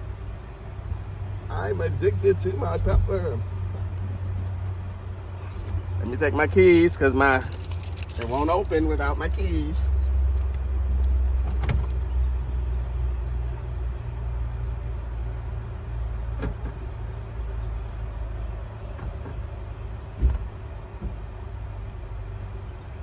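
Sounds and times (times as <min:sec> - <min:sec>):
low vehicle rumble: 0:00.0 - 0:23.0.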